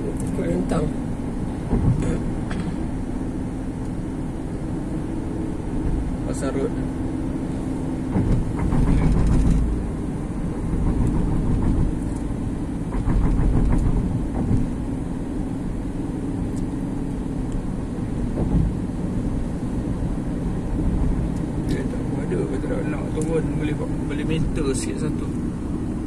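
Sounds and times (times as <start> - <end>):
car road noise rumble: 0.0 - 26.0.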